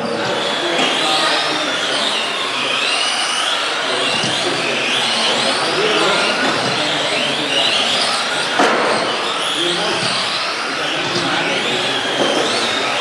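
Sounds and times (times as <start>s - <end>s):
toy truck motors whining: 0.0s - 13.0s.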